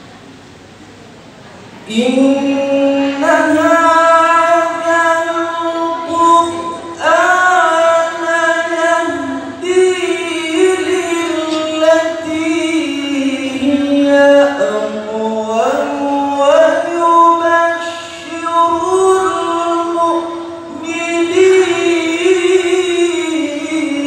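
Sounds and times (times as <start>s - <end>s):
man reciting melodically: 1.9s - 24.0s.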